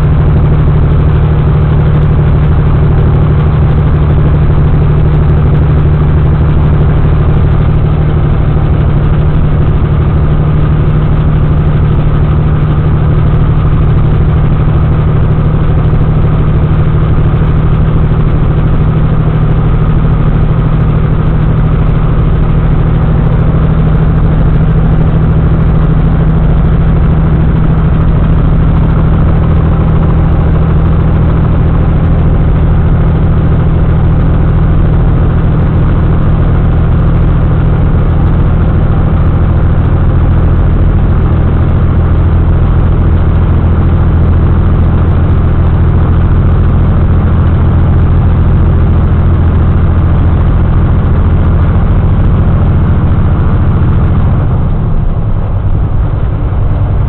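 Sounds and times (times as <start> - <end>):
car engine drone: 0.0 - 57.0.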